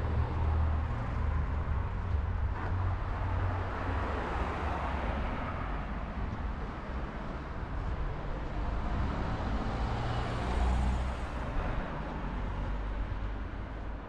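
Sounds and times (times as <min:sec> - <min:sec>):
background traffic: 0:00.0 - 0:14.0.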